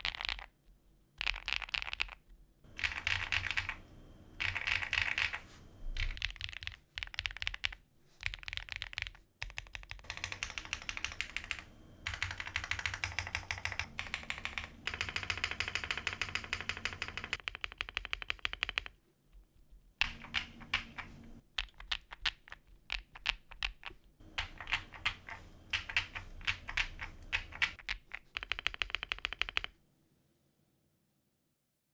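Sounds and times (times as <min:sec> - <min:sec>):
mechanical keyboard typing: 0:00.0 - 0:00.5, 0:01.2 - 0:19.0, 0:20.0 - 0:29.8.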